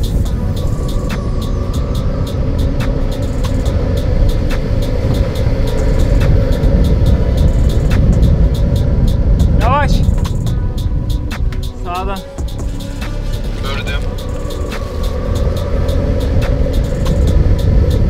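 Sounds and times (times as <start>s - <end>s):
road rumble inside car: 0.0s - 18.0s.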